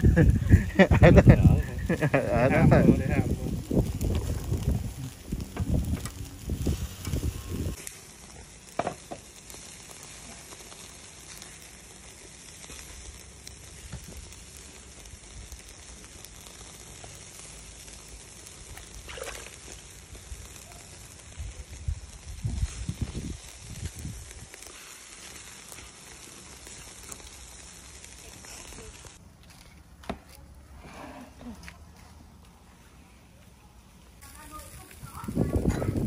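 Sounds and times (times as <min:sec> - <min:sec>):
food frying in a pan: 0:00.0 - 0:29.2.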